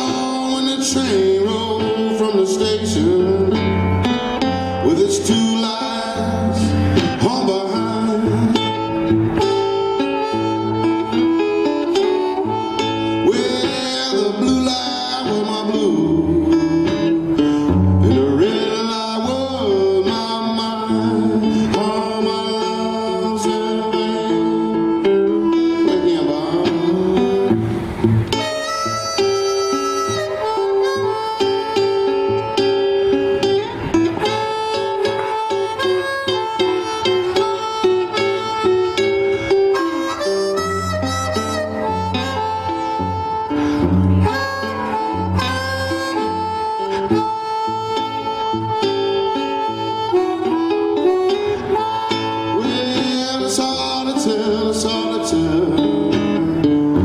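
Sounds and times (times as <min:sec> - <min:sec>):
harmonica bending notes: 0:00.0 - 0:57.0
resonator guitar picking: 0:00.0 - 0:57.0.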